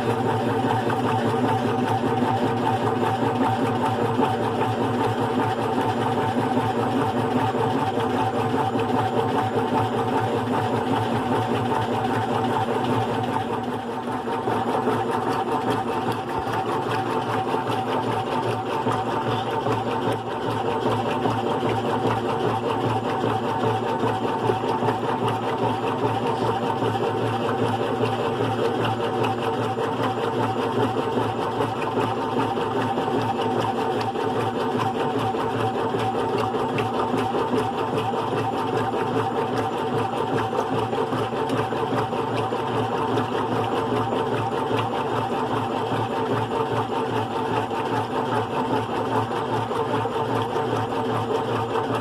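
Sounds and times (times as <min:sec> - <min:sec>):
washing machine humming and rattling: 0:00.0 - 0:52.0.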